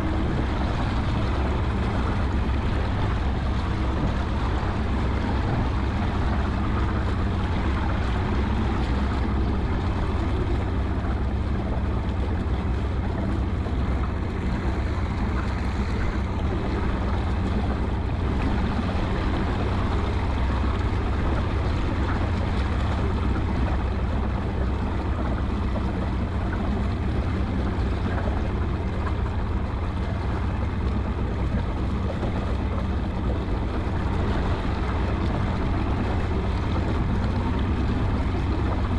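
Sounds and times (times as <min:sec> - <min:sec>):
motorboat engine running: 0:00.0 - 0:38.9
wind and water noise: 0:00.0 - 0:38.9.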